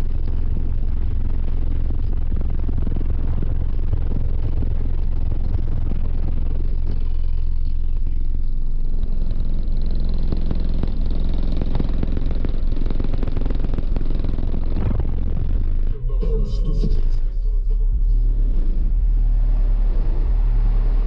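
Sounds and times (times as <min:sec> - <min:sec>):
deep bass from car subwoofers: 0:00.0 - 0:21.0.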